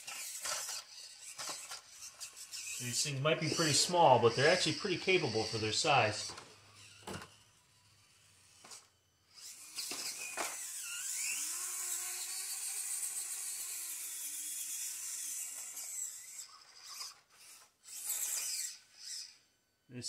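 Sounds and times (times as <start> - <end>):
electric motor and gears whining: 0.0 - 19.6.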